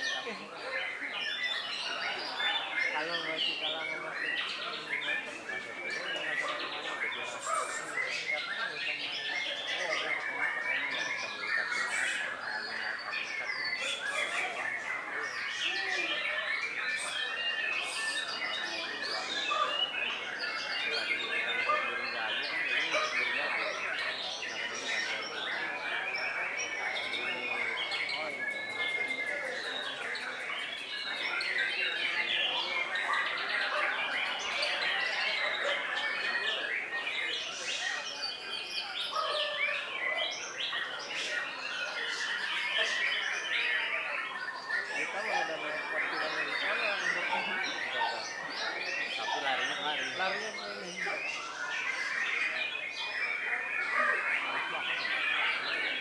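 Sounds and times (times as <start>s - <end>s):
birds singing: 0.0s - 56.0s
songbirds chirping and trilling: 0.0s - 56.0s.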